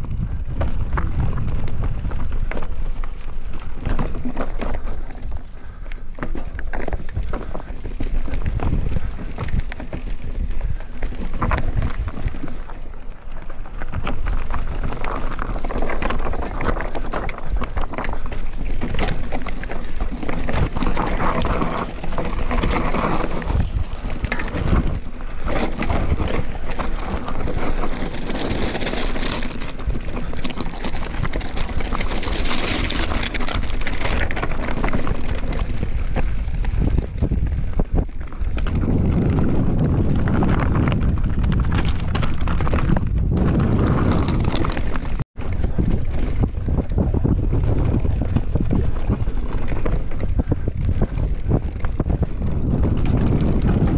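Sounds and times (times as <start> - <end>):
bike rattling: 0.0 - 53.9
tyres crunching over stones: 0.0 - 53.9
wind on microphone: 0.0 - 53.9.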